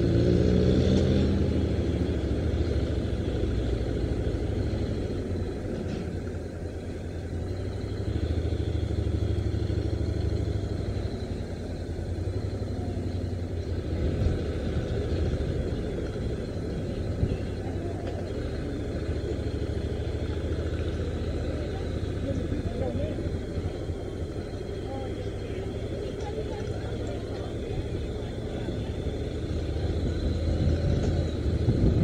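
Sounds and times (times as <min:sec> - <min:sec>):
motorcycle engine rumbling: 0:00.0 - 0:32.0
road noise: 0:00.0 - 0:32.0.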